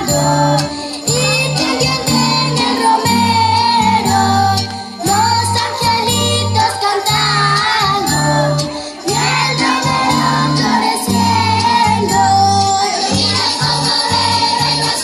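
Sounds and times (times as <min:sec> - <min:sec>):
bass line with held notes: 0:00.0 - 0:06.6, 0:07.2 - 0:14.8
person singing: 0:00.0 - 0:15.0
small bells shaking: 0:00.0 - 0:15.0.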